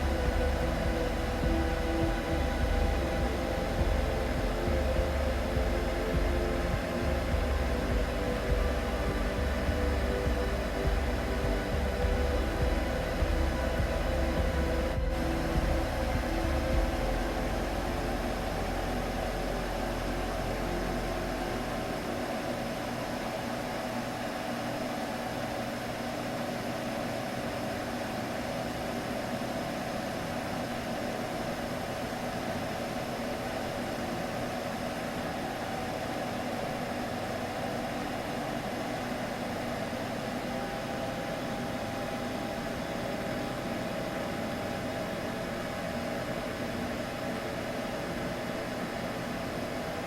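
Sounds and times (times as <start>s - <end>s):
steady hum with hiss: 0.0s - 50.0s.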